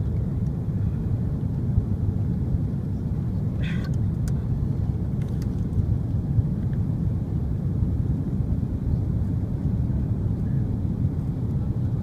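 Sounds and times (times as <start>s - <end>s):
low rumble of engines and airflow: 0.0s - 12.0s.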